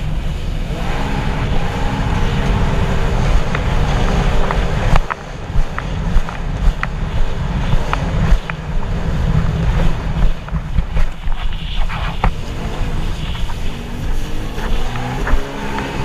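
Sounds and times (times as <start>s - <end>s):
hull slapping waves: 0.0s - 16.0s
jet ski engine running: 0.0s - 16.0s
water rushing and spray: 0.0s - 16.0s
wind rumble on microphone: 0.0s - 16.0s.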